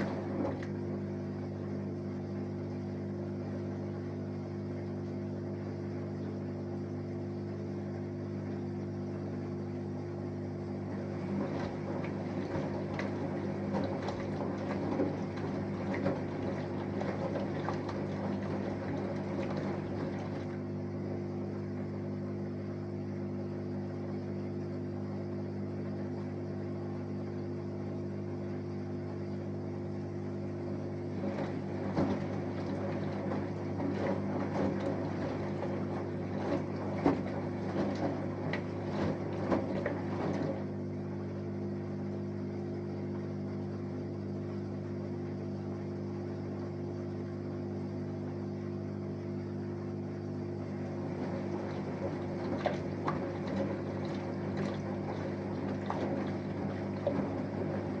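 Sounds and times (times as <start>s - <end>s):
washing machine humming: 0.0s - 58.0s
water and laundry sloshing in drum: 0.0s - 58.0s.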